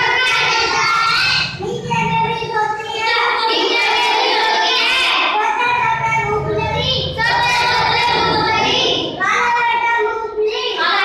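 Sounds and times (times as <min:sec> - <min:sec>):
boy singing: 0:00.0 - 0:11.0.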